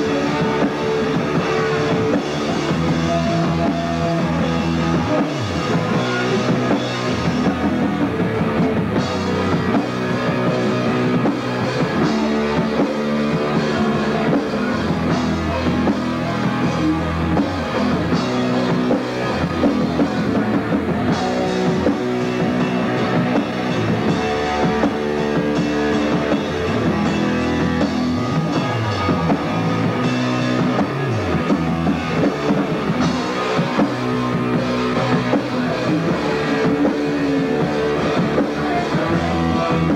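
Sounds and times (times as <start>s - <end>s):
distorted electric guitar: 0.0s - 39.9s
drum kit playing: 0.0s - 39.9s.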